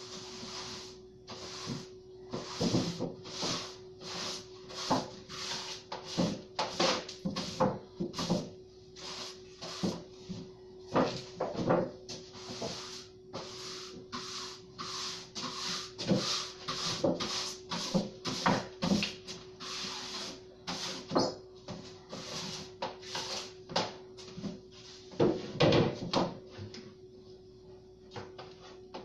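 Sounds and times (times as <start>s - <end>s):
broom sweeping a floor: 0.0s - 25.6s
background hum: 0.0s - 29.0s.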